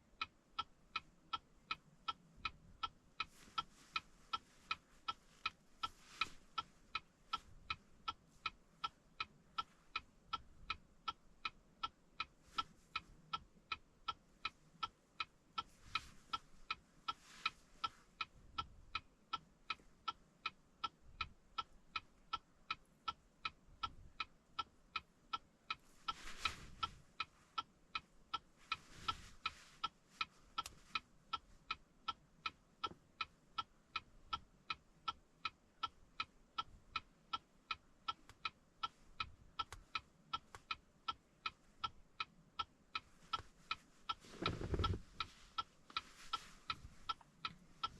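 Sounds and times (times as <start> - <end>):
steady ticking with ring: 0.0 - 47.9.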